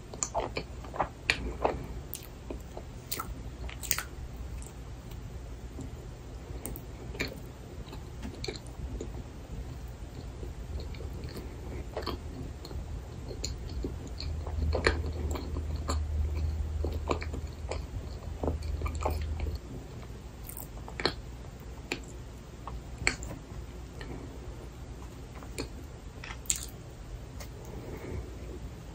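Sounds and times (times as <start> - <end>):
chewing with mouth clicks: 0.0 - 5.2, 5.8 - 24.2, 25.0 - 26.8.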